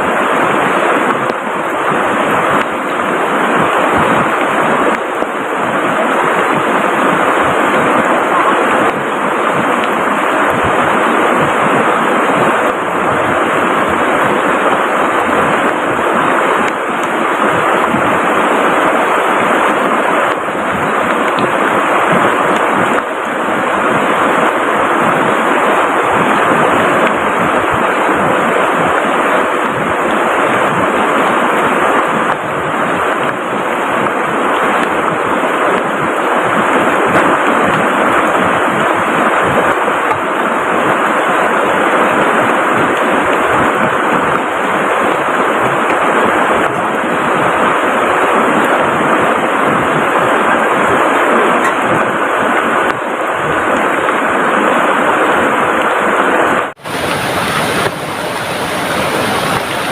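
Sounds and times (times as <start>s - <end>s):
heavy rain: 0.0s - 59.9s
rushing river: 0.0s - 59.9s.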